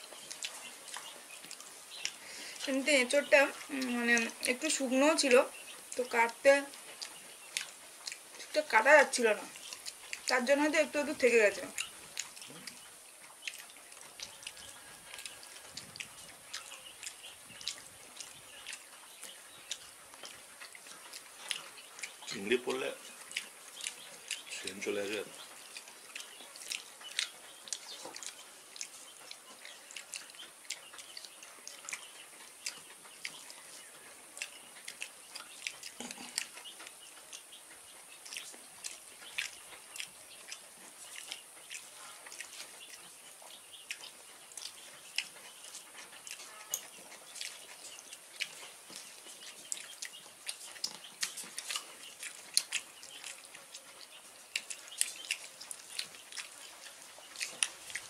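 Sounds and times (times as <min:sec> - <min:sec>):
chewing and lip smacks: 0:00.0 - 0:04.6, 0:05.2 - 0:10.5, 0:11.6 - 0:58.0.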